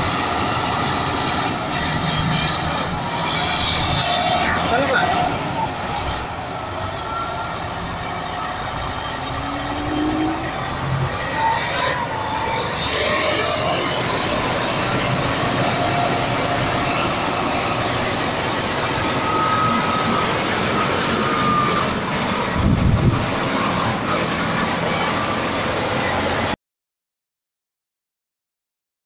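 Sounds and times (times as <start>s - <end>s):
bulldozer diesel engine running: 0.0s - 26.6s
steel crawler tracks clattering: 0.0s - 26.6s.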